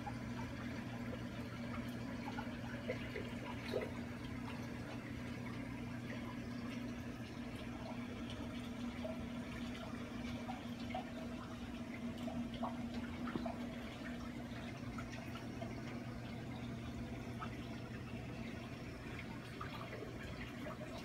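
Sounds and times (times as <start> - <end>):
pump electrical hum: 0.0 - 21.0
water drips: 0.0 - 21.0
water trickling and splashing: 0.0 - 21.0.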